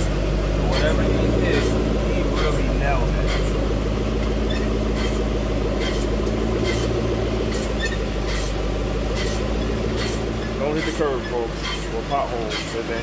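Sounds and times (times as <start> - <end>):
car engine running: 0.0 - 13.0
rhythmic swish of spinning wheel: 0.0 - 13.0.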